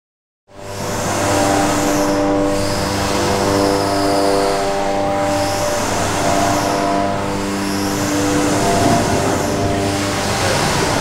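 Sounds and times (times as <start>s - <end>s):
hydraulic machine hum: 0.6s - 11.0s.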